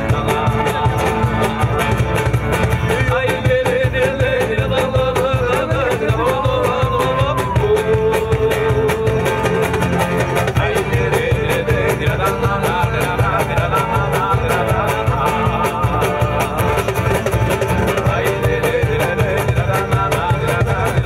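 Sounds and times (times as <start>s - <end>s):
acoustic guitar: 0.0s - 21.0s
hand percussion beat: 0.0s - 21.0s.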